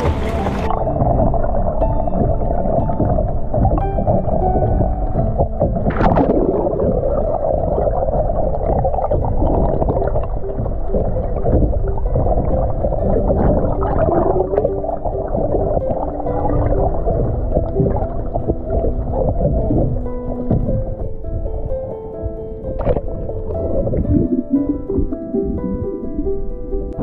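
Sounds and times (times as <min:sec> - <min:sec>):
underwater rumbling water: 0:00.0 - 0:27.0.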